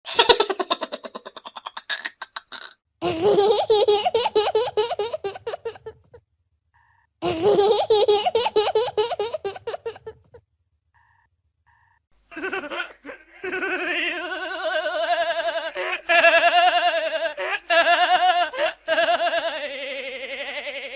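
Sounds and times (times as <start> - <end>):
children giggling: 0.1 - 6.2, 7.2 - 10.4, 12.3 - 20.6.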